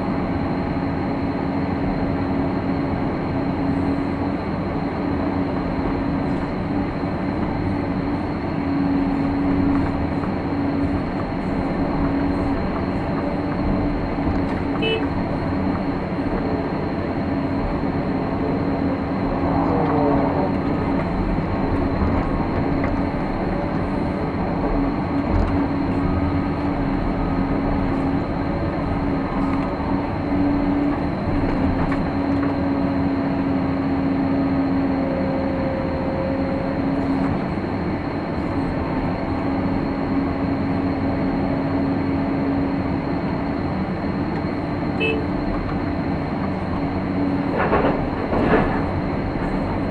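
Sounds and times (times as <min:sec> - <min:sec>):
excavator engine drone: 0:00.0 - 0:49.9.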